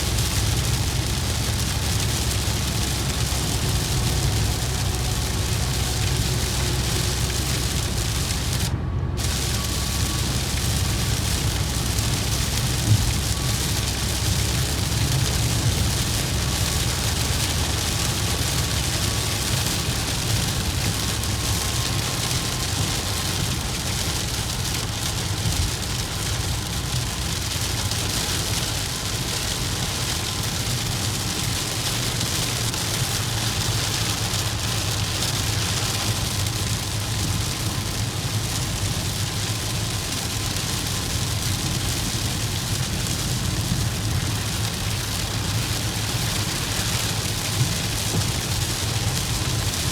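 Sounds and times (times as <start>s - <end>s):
heavy rain on vehicle: 0.0s - 49.9s
road and engine rumble: 0.0s - 49.9s.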